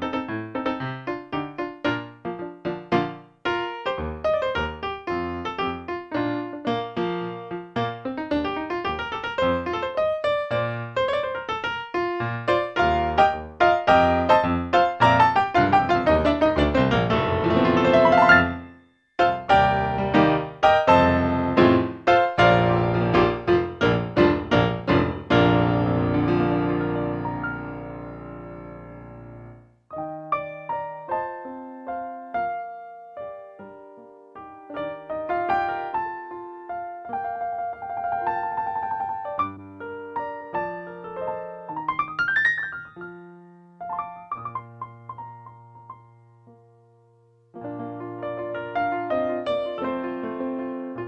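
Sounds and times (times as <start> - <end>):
solo piano playing: 0.0 - 51.0.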